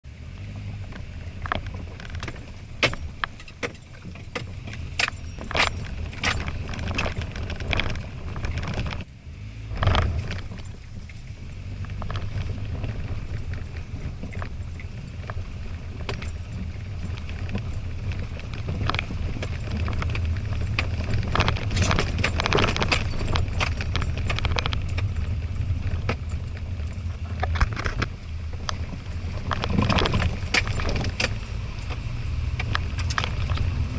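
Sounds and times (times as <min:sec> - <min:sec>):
engine and road drone: 0:00.0 - 0:33.9
knocks and jangling rattles: 0:00.6 - 0:09.1, 0:09.8 - 0:33.9.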